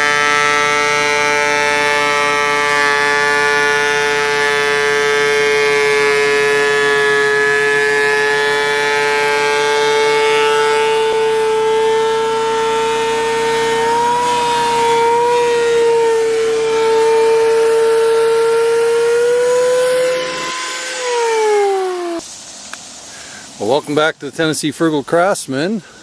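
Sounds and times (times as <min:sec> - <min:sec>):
thickness planer whining: 0:00.0 - 0:22.2.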